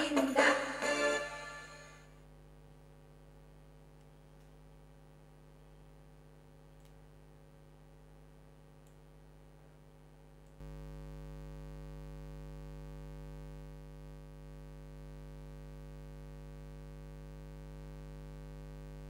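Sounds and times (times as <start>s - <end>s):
electrical hum: 1.5s - 19.0s.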